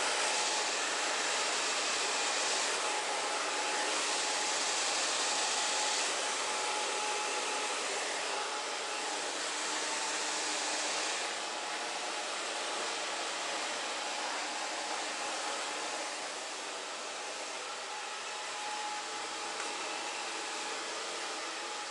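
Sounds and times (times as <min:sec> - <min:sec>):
hair dryer running: 0:00.0 - 0:21.9.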